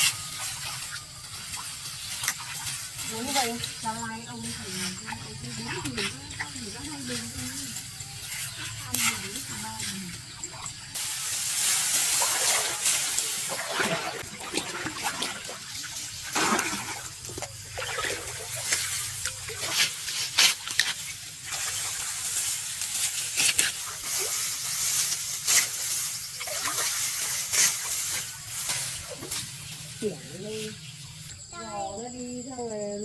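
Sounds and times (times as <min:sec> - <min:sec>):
water splashing and sloshing: 0:00.0 - 0:31.5.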